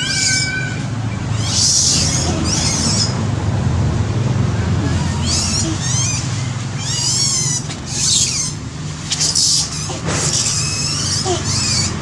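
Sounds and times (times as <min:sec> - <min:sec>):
baby monkey squealing: 0:00.0 - 0:03.2, 0:04.8 - 0:12.0.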